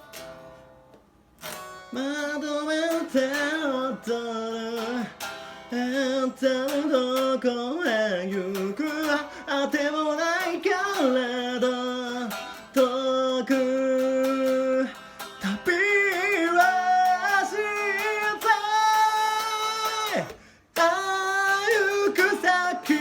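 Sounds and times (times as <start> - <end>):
guitar strumming: 0.0 - 23.0
person singing: 1.9 - 23.0.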